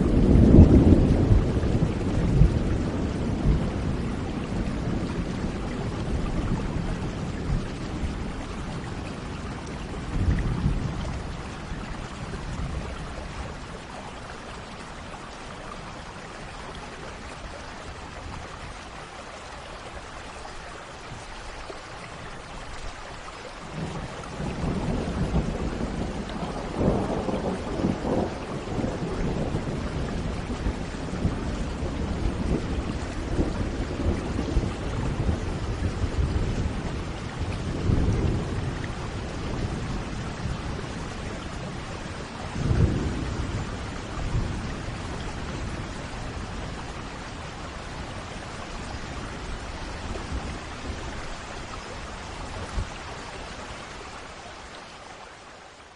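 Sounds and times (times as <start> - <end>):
low rumble of thunder: 0.0 - 19.1, 23.6 - 54.4
steady rain falling: 0.0 - 55.9.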